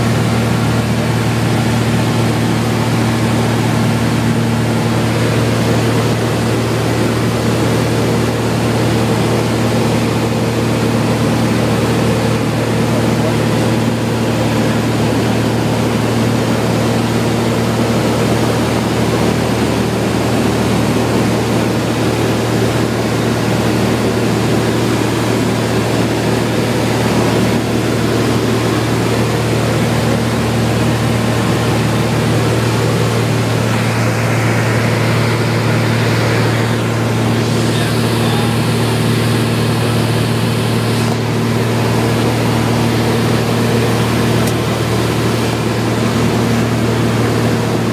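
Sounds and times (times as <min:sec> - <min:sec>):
airplane engine and propeller drone: 0:00.0 - 0:47.9.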